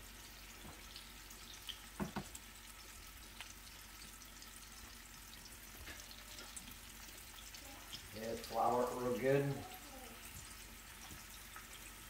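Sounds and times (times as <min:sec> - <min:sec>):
meat sizzling in skillet: 0:00.0 - 0:12.0.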